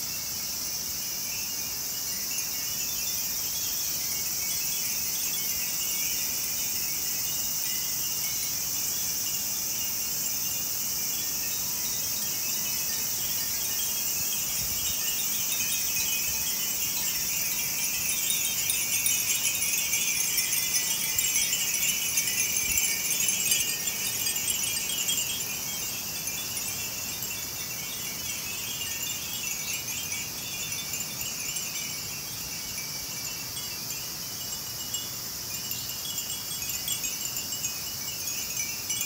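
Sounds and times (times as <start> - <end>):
glass wind bells tinkling: 0.0 - 39.0.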